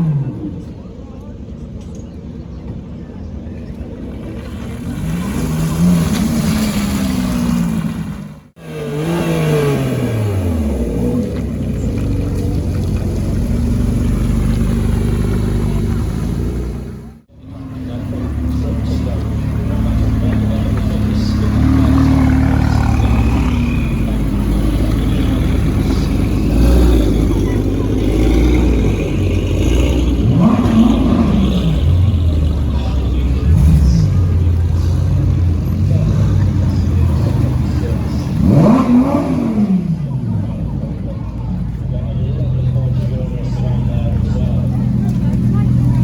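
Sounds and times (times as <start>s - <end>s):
car engine revving: 4.0s - 46.0s.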